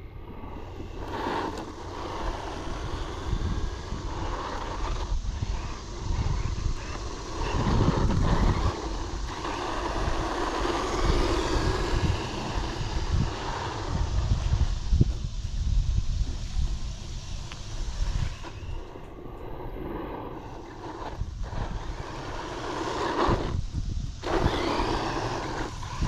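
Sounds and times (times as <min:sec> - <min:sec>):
electric motor whine: 0:00.0 - 0:26.0
tyre noise on asphalt: 0:00.0 - 0:26.0
wind buffeting microphone: 0:00.0 - 0:26.0.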